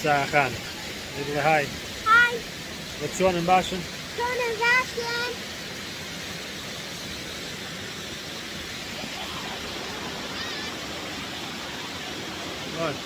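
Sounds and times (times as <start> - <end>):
water rushing over a spillway: 0.0 - 13.0.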